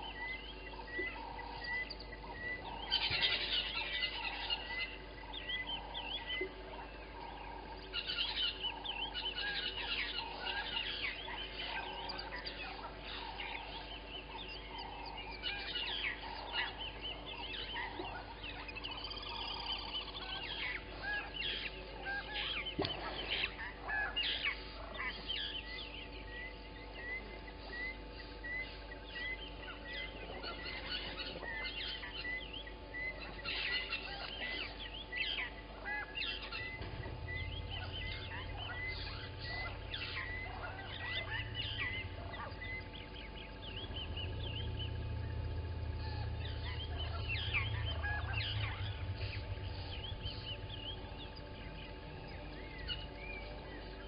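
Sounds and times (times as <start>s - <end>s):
low steady hum: 0.0s - 54.0s
wild birds calling: 0.0s - 54.0s.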